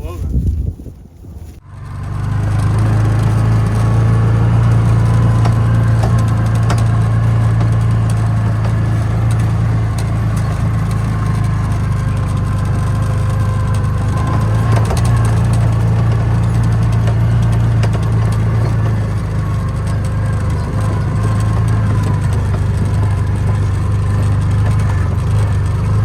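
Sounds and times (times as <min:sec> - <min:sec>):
engine running steadily: 0:01.5 - 0:26.0
light rattles and clicks: 0:01.5 - 0:26.0.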